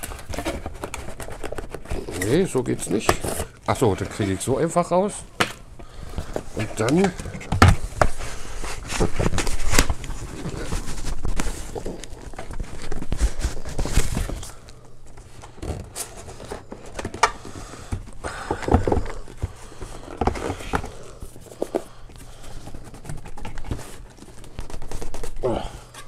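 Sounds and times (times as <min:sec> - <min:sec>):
cardboard scraping and rustling: 0:00.0 - 0:05.1, 0:06.1 - 0:14.6, 0:15.2 - 0:26.0.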